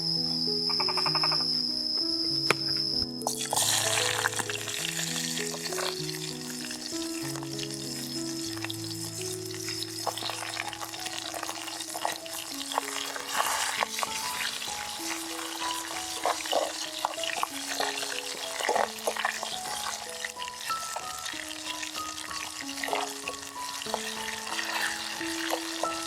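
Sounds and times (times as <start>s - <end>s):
background music: 0.0s - 26.0s
food sizzling in a pan: 3.2s - 26.0s.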